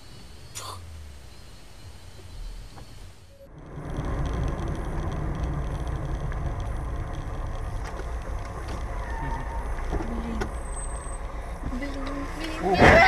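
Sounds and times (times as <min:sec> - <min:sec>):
car engine rumble: 0:00.0 - 0:13.0
tyres on road: 0:00.0 - 0:13.0.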